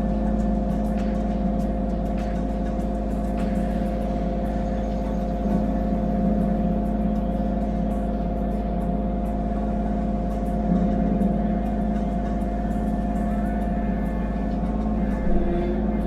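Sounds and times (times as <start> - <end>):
excavator diesel engine running: 0.0 - 16.0
high whine: 0.0 - 16.0.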